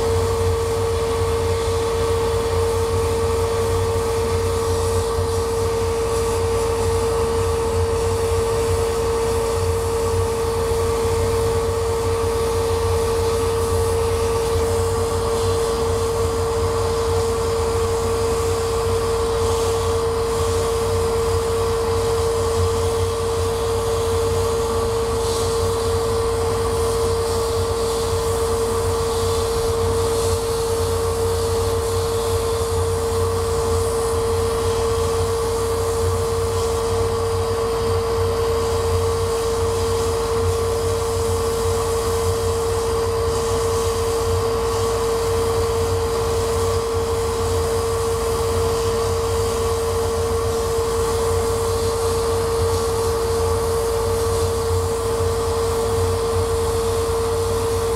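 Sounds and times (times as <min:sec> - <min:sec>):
laser cutter whirring: 0:00.0 - 0:57.9.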